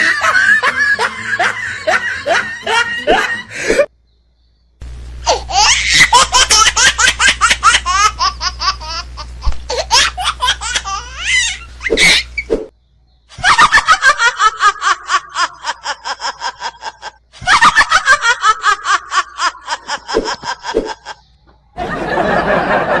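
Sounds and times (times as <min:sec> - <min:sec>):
high-pitched witch cackle: 0:00.0 - 0:03.9, 0:05.2 - 0:12.5, 0:13.3 - 0:23.0
studio audience laughing: 0:00.0 - 0:03.9, 0:05.2 - 0:12.2, 0:13.4 - 0:21.2, 0:21.8 - 0:23.0.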